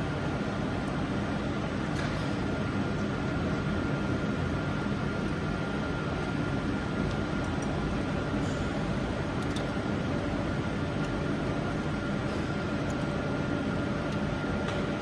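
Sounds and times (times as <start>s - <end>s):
machine fans whirring: 0.0s - 15.0s
thin steady whine: 0.0s - 15.0s.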